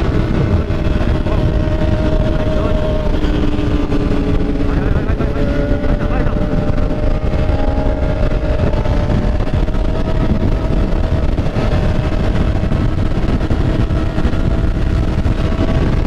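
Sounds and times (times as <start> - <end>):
motorcycle engine: 0.0 - 16.0
wind and road noise: 0.0 - 16.0.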